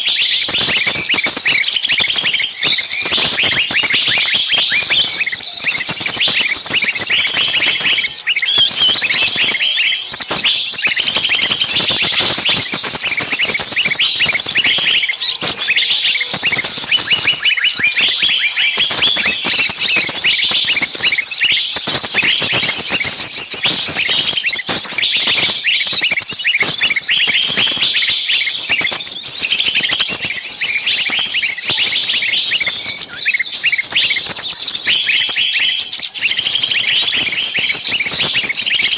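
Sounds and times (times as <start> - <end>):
small birds chirping and screeching: 0.0 - 38.9.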